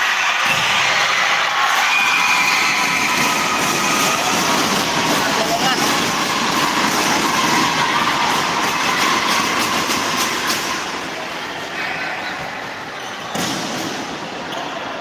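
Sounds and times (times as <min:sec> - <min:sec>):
crowd din in sports hall: 0:00.0 - 0:15.0.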